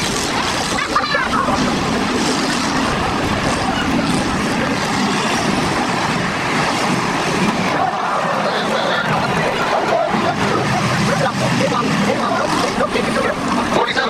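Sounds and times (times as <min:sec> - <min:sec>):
car engines running loudly: 0:00.0 - 0:14.0
wind buffeting microphone: 0:00.0 - 0:14.0.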